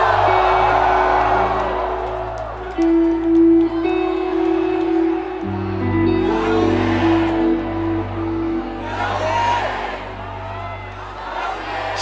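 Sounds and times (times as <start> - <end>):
rock band sustained chords: 0.0 - 11.0
crowd cheering and whooping: 0.0 - 12.0.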